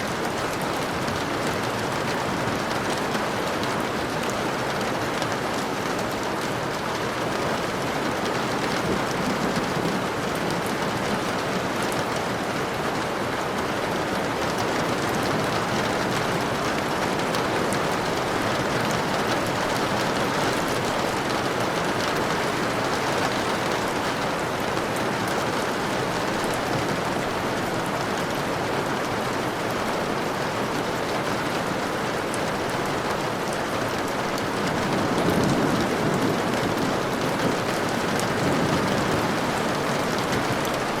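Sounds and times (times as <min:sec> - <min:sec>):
rain pattering: 0:00.0 - 0:41.0.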